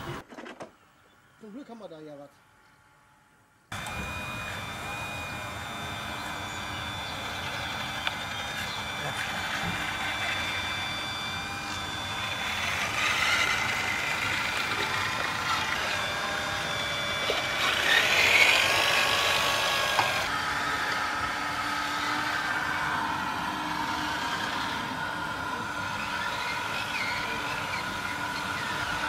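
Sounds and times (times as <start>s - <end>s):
model loader mechanical whine: 0.0s - 1.3s, 2.6s - 29.0s.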